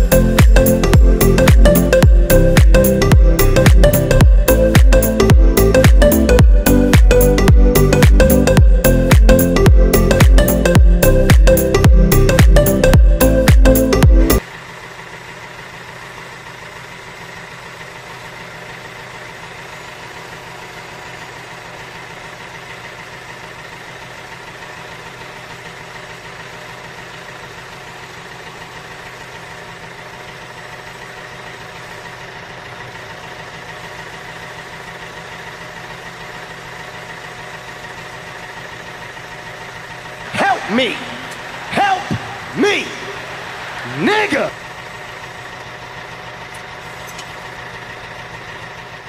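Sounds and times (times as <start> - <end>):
tractor engine idling: 0.0 - 49.0.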